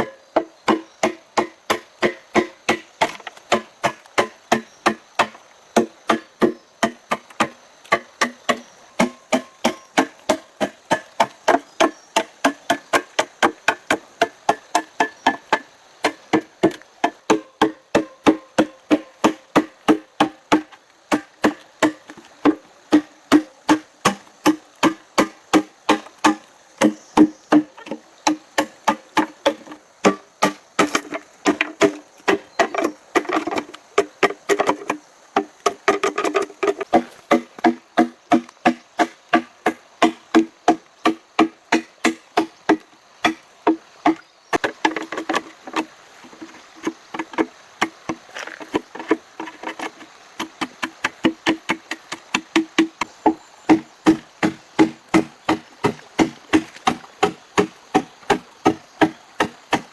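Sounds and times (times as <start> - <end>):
fast chopping on wood: 0.4 - 45.3, 50.4 - 59.9.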